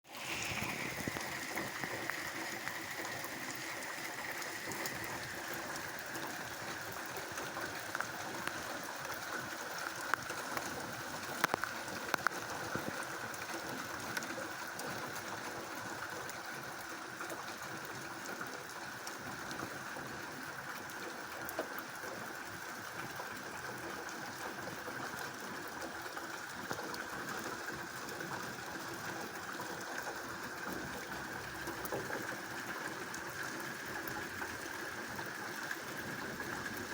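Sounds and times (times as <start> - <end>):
rain and running water hiss: 0.1 - 36.9.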